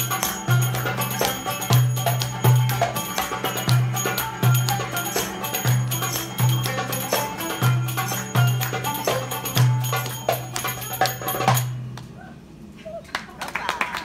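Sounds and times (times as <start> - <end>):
oud plucking: 0.0 - 12.0.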